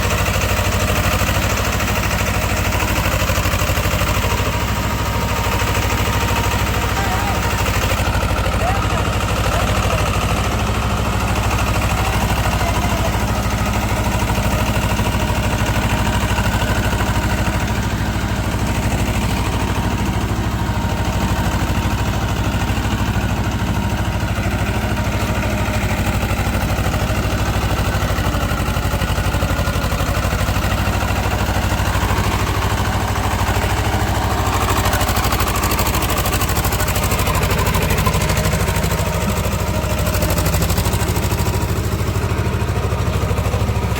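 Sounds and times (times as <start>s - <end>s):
tractor diesel engine droning: 0.0s - 43.9s.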